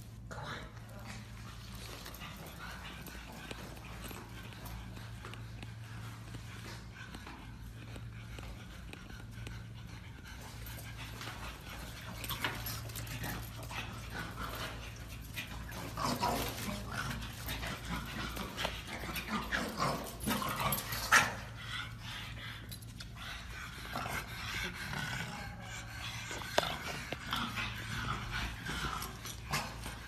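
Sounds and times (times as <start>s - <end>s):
dogs playing noises: 0.0s - 30.0s.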